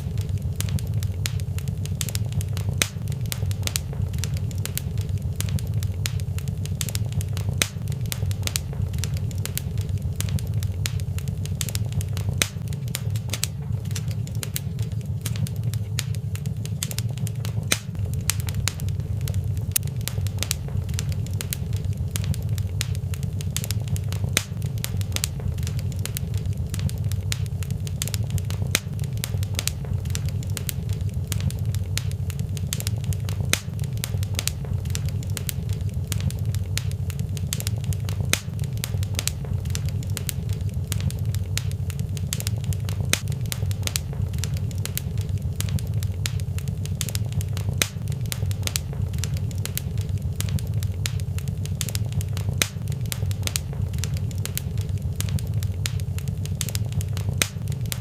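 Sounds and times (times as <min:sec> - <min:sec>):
fire crackling in fireplace: 0:00.0 - 0:58.0.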